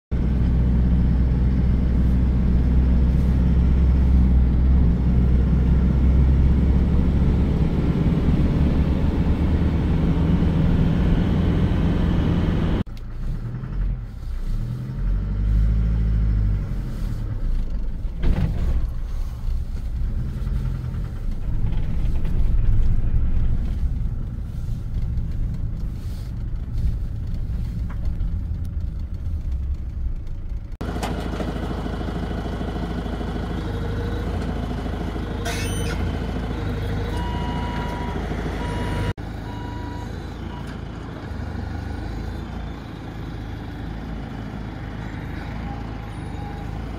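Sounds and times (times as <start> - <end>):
engine rumbling: 0.1 - 46.9.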